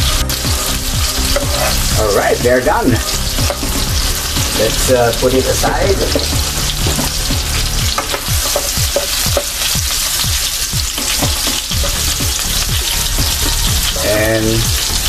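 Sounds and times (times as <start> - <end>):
liver sizzling in frying pan: 0.0 - 15.0.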